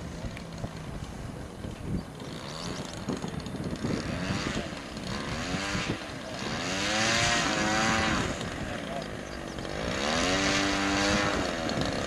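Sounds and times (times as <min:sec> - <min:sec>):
model plane engine revving: 0:02.0 - 0:12.0.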